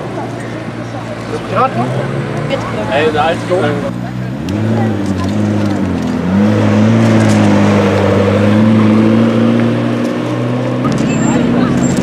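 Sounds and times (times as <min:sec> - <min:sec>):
sports car driving by: 0:00.4 - 0:12.0.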